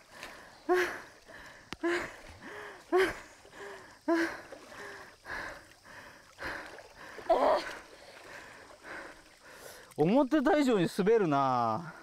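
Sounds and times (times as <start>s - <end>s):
shallow water sloshing and splashing: 0.0s - 10.3s
running stream water: 0.0s - 12.0s.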